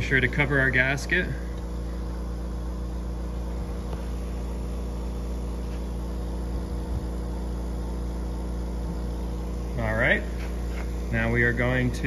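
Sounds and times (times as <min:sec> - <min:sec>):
vacuum pump humming and pulsing: 0:00.0 - 0:12.0.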